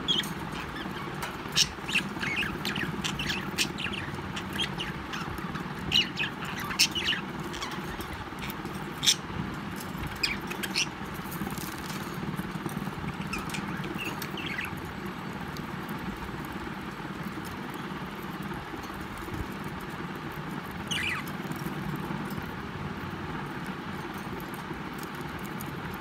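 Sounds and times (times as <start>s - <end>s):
steady low hum: 0.0s - 26.0s
birds pecking at food in bowl: 0.1s - 26.0s.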